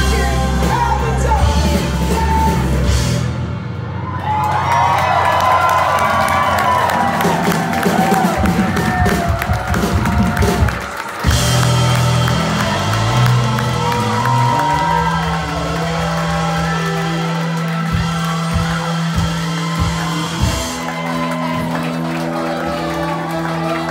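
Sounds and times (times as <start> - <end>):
live rock band playing: 0.0 - 23.9
crowd cheering: 3.7 - 23.9.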